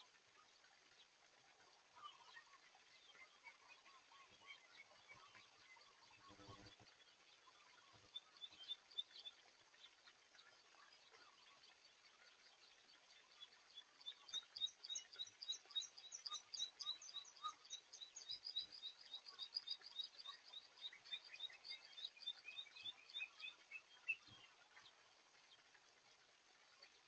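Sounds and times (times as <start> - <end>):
faint outdoor hiss: 0.0 - 27.0.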